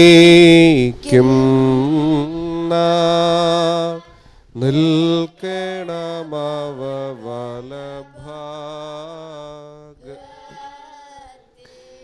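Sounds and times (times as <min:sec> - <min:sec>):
man chanting a prayer: 0:00.0 - 0:10.5.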